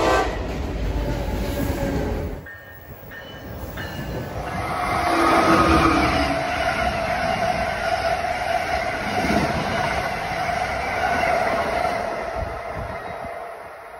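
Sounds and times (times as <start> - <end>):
train wheels rumbling on rail: 0.0 - 13.9.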